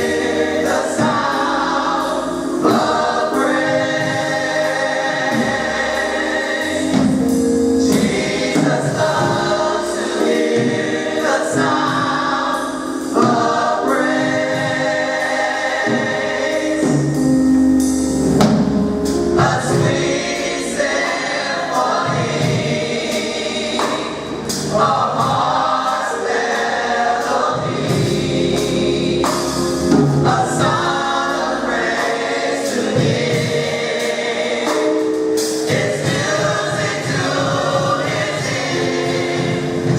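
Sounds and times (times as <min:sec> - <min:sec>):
gospel choir singing with accompaniment: 0:00.0 - 0:39.9.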